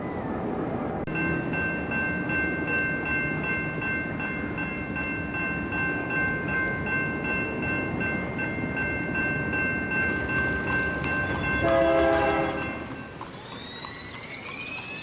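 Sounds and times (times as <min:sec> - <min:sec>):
train rolling on rails: 0:00.0 - 0:15.0
high ringing tones: 0:01.1 - 0:15.0.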